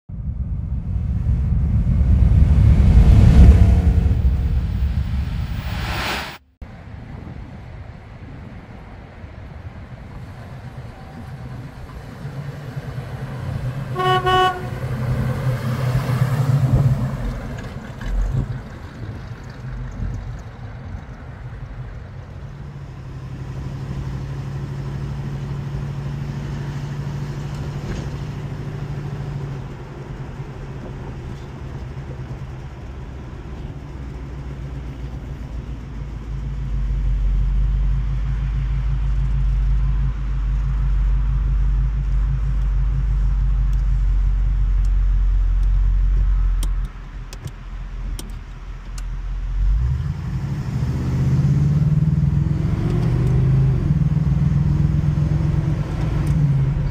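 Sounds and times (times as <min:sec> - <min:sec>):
car engine running: 0:00.1 - 0:05.8, 0:11.4 - 0:56.9.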